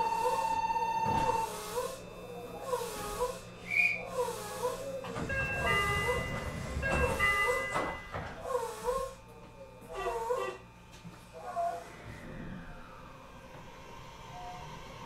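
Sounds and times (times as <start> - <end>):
train motor whine: 0.0 - 15.0
train running rumble: 0.0 - 15.0.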